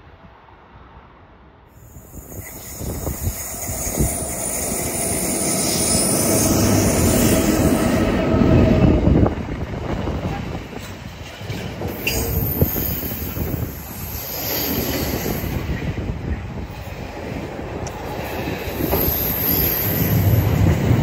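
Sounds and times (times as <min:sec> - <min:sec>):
train wheel and rail noise: 0:00.0 - 0:21.0.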